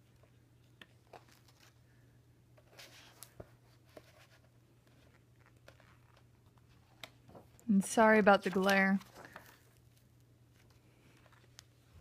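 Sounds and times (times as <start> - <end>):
book pages turning: 0.1 - 1.8, 2.6 - 7.6, 8.3 - 12.0.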